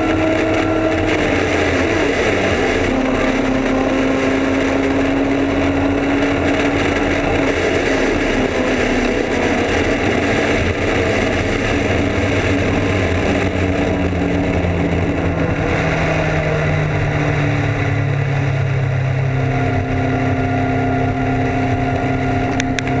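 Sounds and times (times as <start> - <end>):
motorcycle engine at speed: 0.0 - 23.0
wind rush on microphone: 0.0 - 23.0.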